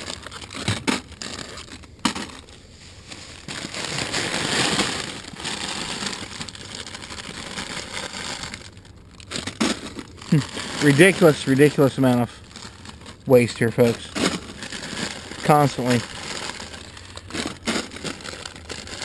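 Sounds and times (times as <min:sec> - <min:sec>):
plastic and foil bags crinkling: 0:00.0 - 0:19.0.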